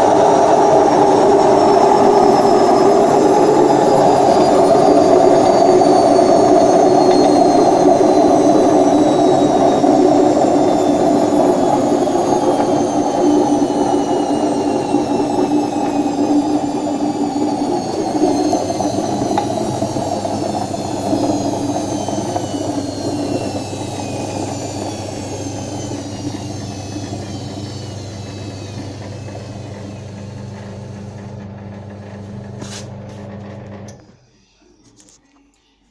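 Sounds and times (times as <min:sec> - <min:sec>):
washing machine motor whine: 0:00.0 - 0:34.2.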